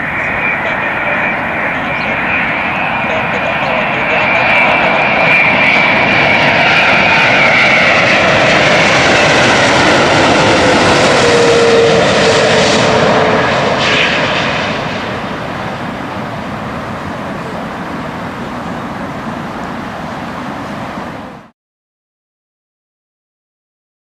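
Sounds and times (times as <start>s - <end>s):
jet engines at high thrust: 0.0s - 21.5s.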